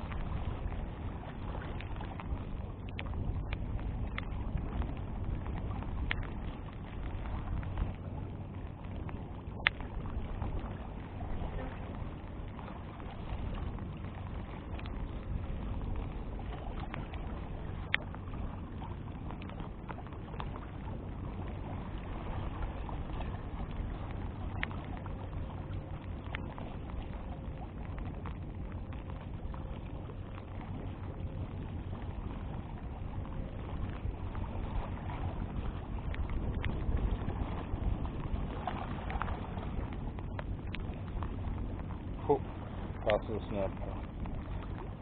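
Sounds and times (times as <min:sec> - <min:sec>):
wind buffeting microphone: 0:00.0 - 0:45.0
faint clicks: 0:01.6 - 0:11.1, 0:11.8 - 0:22.1, 0:22.9 - 0:45.0.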